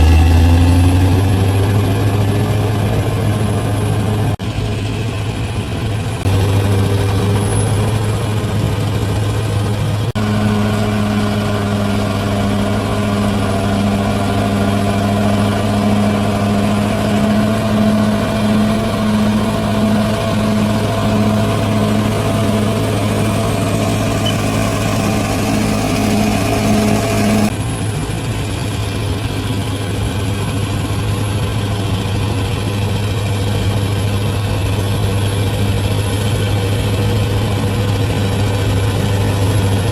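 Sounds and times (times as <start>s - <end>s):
bulldozer diesel engine running: 0.0s - 39.9s
higher mechanical whine: 0.0s - 39.9s.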